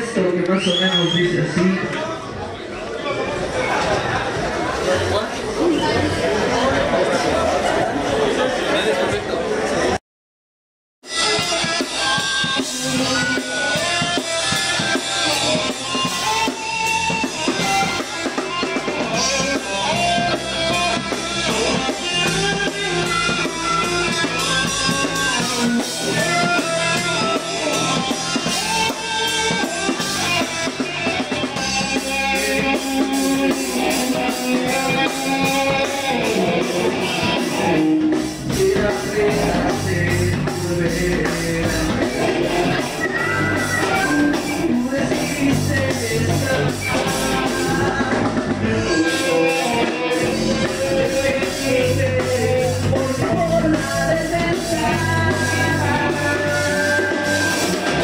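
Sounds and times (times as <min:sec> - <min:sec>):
drum kit: 0:11.0 - 0:58.0
rock band playing: 0:11.0 - 0:58.0.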